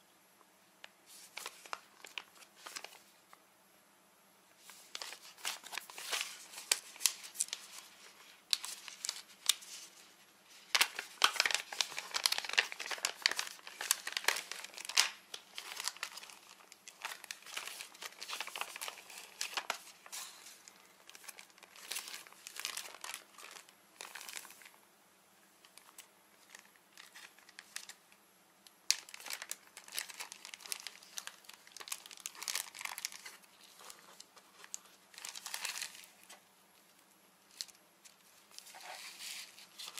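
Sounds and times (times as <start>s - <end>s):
plastic packaging crinkling: 1.1s - 3.1s, 4.6s - 24.8s, 25.6s - 28.0s, 28.8s - 39.9s.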